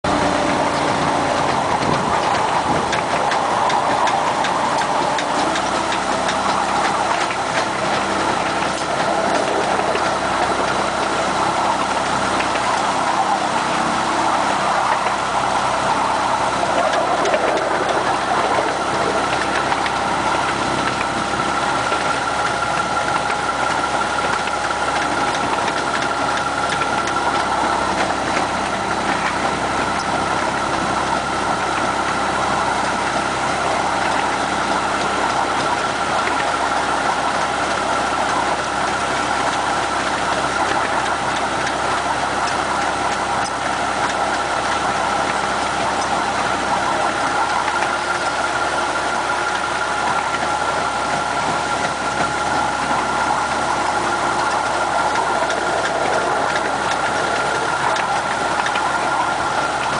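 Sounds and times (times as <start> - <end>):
diesel locomotive engine droning: 0.0 - 59.9.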